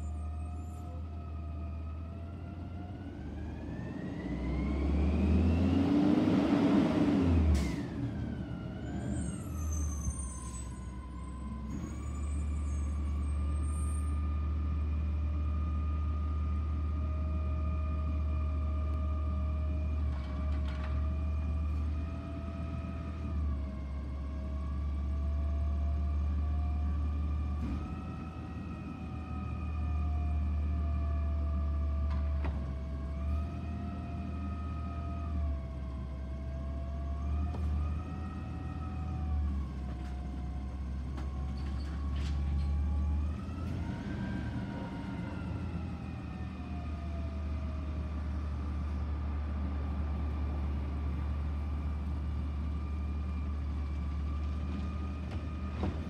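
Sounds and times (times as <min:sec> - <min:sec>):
diesel truck engine: 0:00.0 - 0:56.0.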